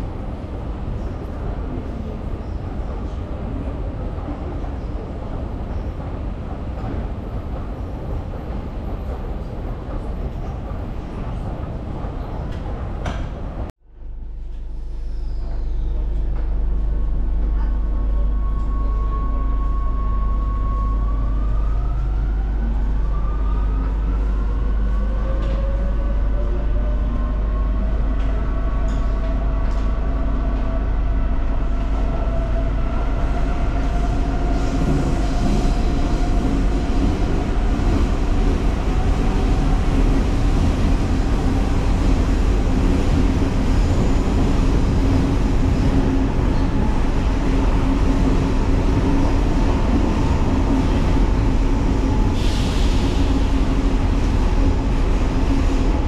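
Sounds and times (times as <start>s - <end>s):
low train running rumble: 0.0s - 56.0s.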